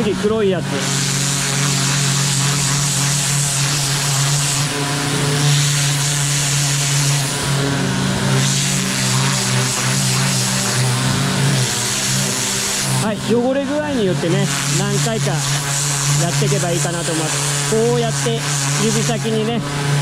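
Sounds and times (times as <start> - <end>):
pressure washer motor hum: 0.0 - 20.0
water jet hissing: 0.0 - 20.0.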